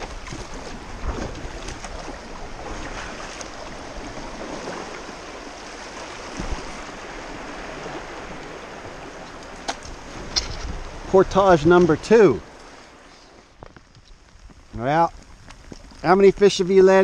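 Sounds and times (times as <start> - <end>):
river water rushing and splashing: 0.0 - 17.0.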